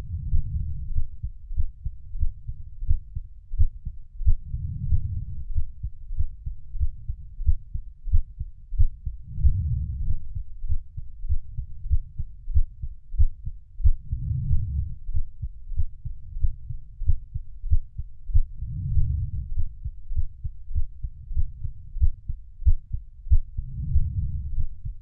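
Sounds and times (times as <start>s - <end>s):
heartbeat thumps: 0.0s - 25.0s.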